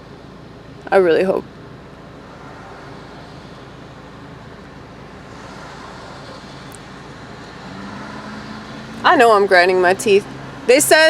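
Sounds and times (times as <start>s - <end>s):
outdoor background rumble and hiss: 0.0s - 11.0s.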